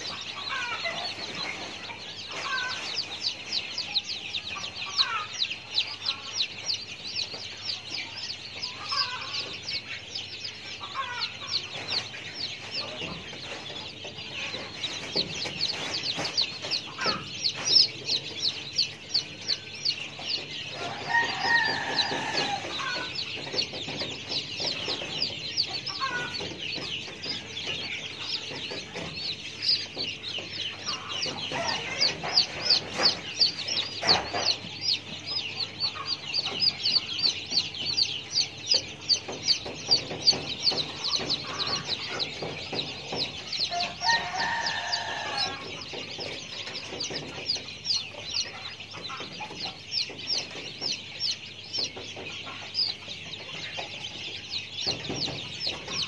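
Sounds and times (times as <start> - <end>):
birds chirping rapidly: 0.0 - 56.0.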